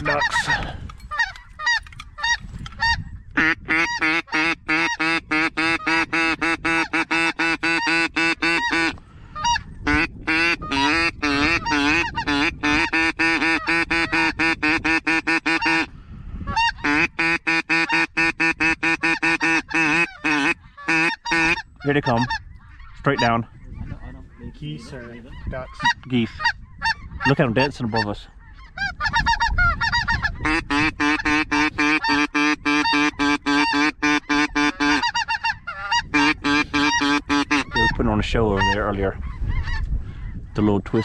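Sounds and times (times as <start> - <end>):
geese honking: 0.0 - 15.9, 16.5 - 40.3.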